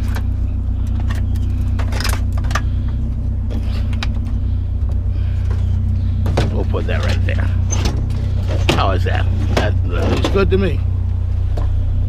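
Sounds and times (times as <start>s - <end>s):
scrap metal clanking and rattling: 0.0s - 10.8s
truck engine idling: 0.0s - 12.0s.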